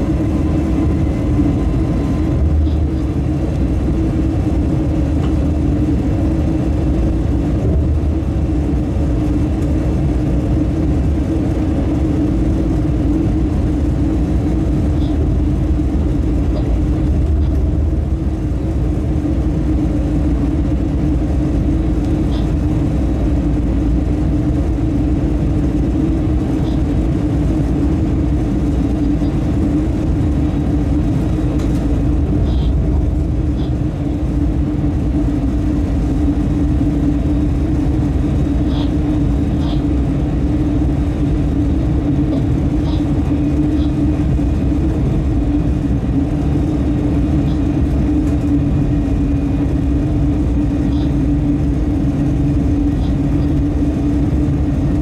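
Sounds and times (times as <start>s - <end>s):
locomotive cab hum: 0.0s - 55.0s
wheels rumbling on rail: 0.0s - 55.0s.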